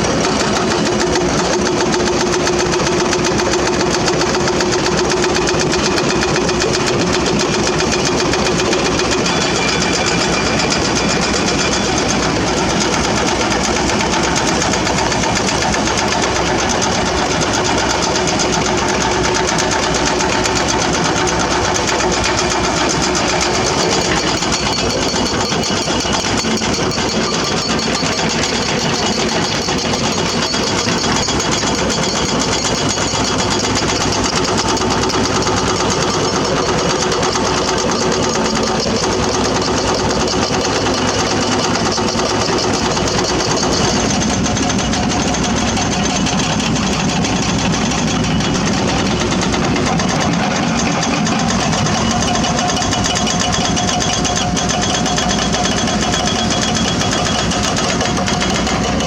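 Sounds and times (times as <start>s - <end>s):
diesel engine running: 0.0s - 59.0s
steady mid-pitched tone: 0.0s - 59.0s.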